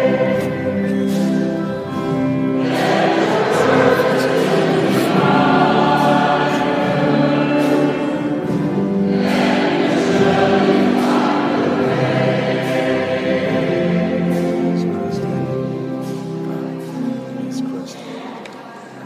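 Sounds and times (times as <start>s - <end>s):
choir singing long chords: 0.0s - 15.6s.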